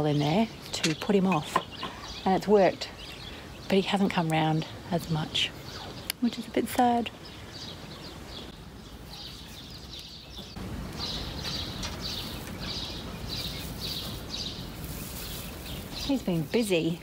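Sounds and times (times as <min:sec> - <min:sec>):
low background noise: 0:00.0 - 0:17.0
small bird chirping: 0:00.0 - 0:17.0.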